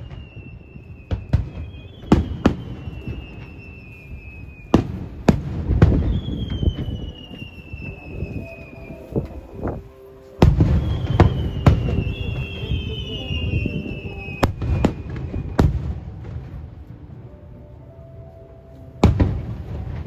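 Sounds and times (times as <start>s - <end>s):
fireworks bursting: 0.0s - 16.8s, 19.0s - 20.0s
fireworks whistling: 0.0s - 16.8s.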